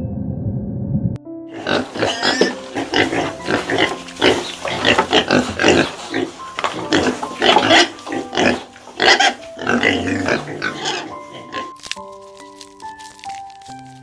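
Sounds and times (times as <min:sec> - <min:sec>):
faint background music: 0:01.5 - 0:14.0.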